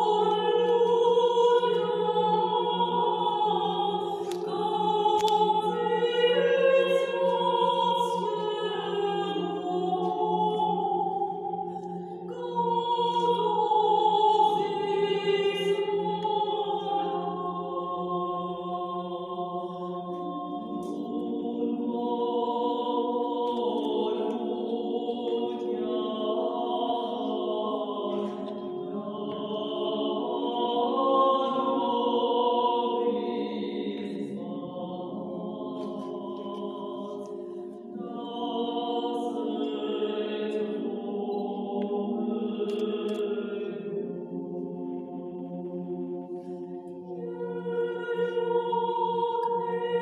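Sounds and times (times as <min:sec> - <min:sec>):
women singing a slow chant: 0:00.0 - 0:50.0.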